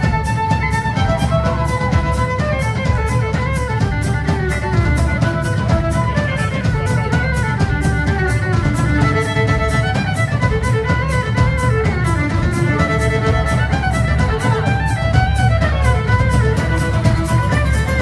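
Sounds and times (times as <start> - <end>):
fiddle melody: 0.0 - 18.0
guitar and bass: 0.0 - 18.0
quick drum beat: 0.0 - 18.0.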